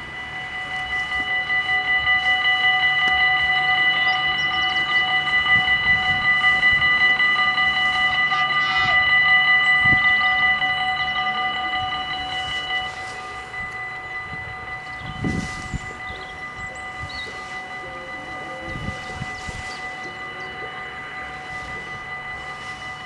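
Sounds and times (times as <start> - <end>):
level crossing bells ringing: 0.0 - 23.0.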